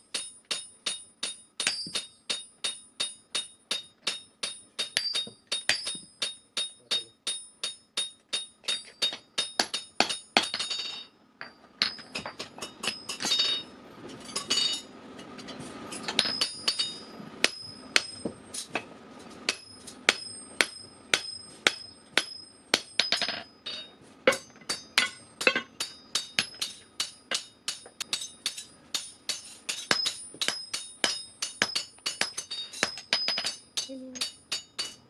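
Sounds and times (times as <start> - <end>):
hammer striking steel on anvil: 0.0 - 35.0.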